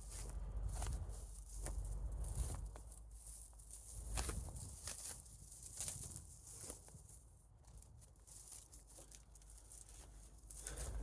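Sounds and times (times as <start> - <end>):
footsteps on dry leaves: 0.0 - 11.0.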